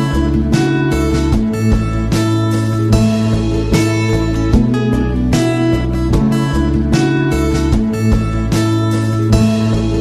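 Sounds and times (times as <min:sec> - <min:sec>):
plucked acoustic guitar music: 0:00.0 - 0:10.0.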